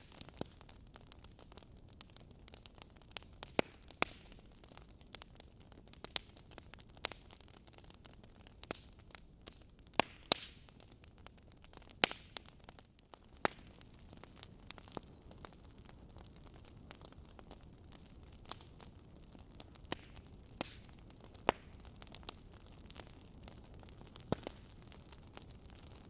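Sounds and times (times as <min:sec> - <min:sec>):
fire hiss: 0:00.0 - 0:26.0
logs crackling in fireplace: 0:00.0 - 0:26.0.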